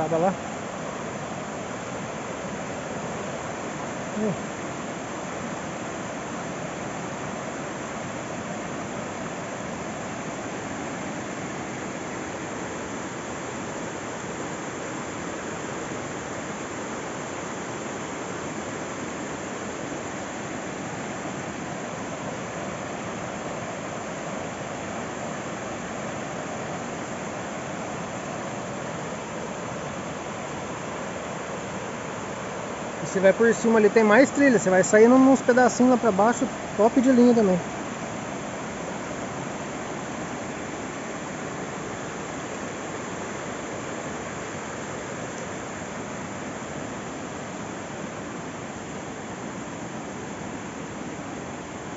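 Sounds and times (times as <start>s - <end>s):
river flowing over stones: 0.0s - 51.9s.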